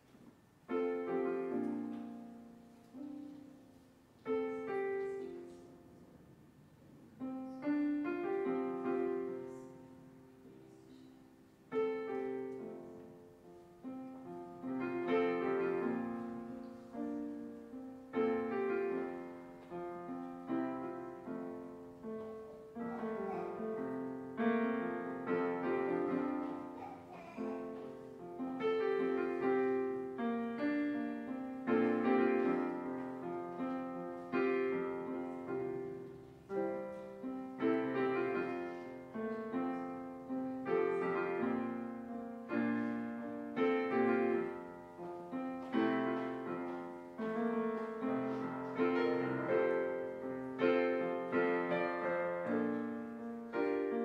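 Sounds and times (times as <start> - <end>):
slow solo piano music: 0.0 - 54.0.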